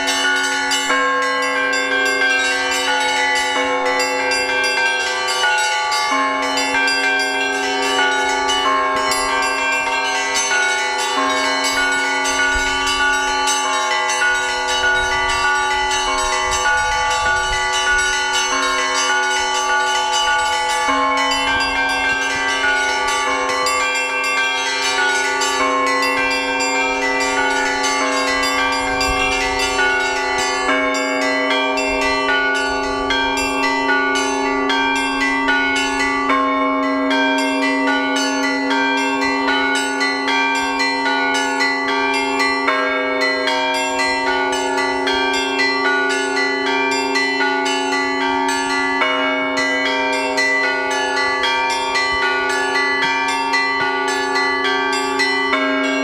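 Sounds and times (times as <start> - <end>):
large bells ringing hum: 0.0 - 56.0
small bells chiming rapidly: 0.0 - 56.0.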